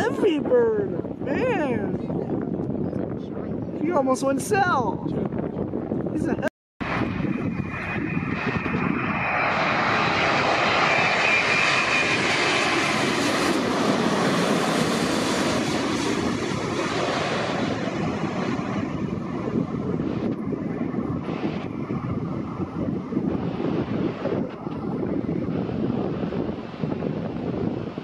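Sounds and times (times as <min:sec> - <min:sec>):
jet airliner passing overhead: 0:00.0 - 0:06.2, 0:06.8 - 0:28.0
high turbine whine: 0:00.0 - 0:28.0.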